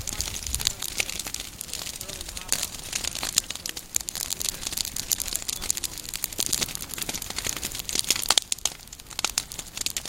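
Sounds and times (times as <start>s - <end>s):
fire crackling in dry grass: 0.0s - 10.0s.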